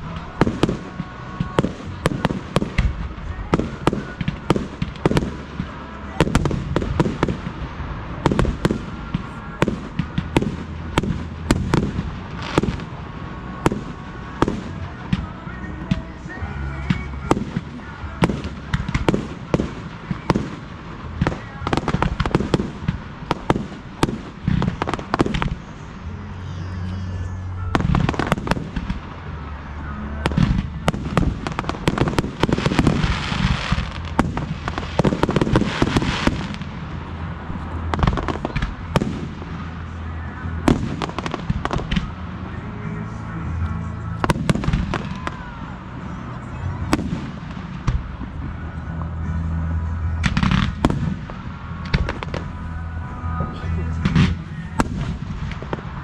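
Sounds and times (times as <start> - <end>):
firework bursts and bangs: 0.0 - 56.0
firework crackling: 0.0 - 56.0.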